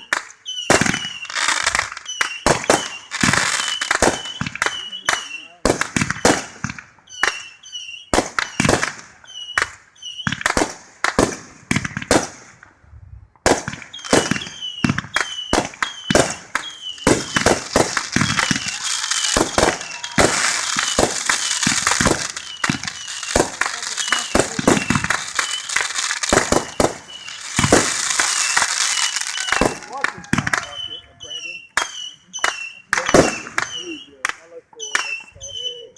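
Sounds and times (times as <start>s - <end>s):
firecrackers banging: 0.0s - 12.8s, 13.4s - 35.3s.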